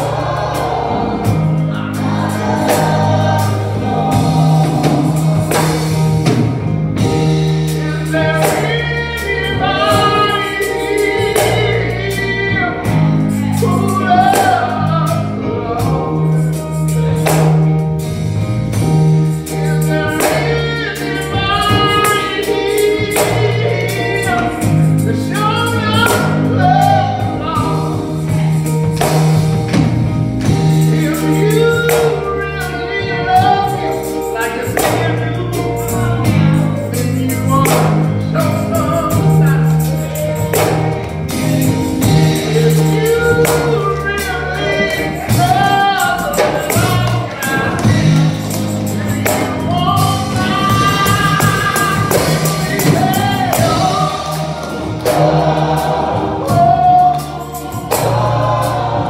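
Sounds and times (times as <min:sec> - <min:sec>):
gospel choir singing: 0:00.0 - 0:59.0
keyboard accompaniment: 0:00.0 - 0:59.0
sustained bass notes: 0:00.0 - 0:59.0.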